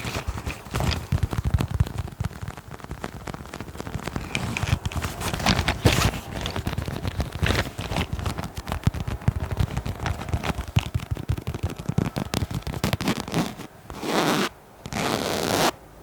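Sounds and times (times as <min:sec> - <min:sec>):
tapping close to microphone: 0:00.0 - 0:13.7
scratchy strokes: 0:00.0 - 0:15.7.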